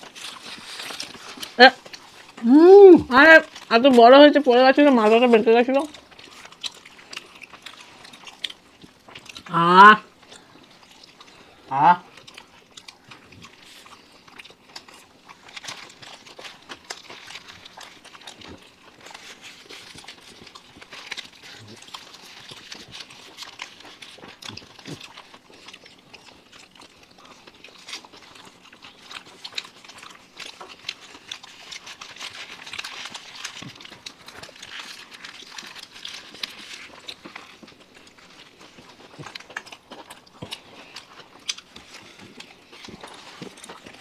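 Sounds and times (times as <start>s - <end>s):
people chewing food: 0.0s - 44.0s.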